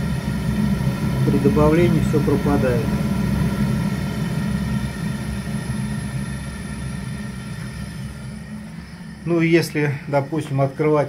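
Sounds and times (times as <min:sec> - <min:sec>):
gas boiler burner rumbling: 0:00.0 - 0:11.0.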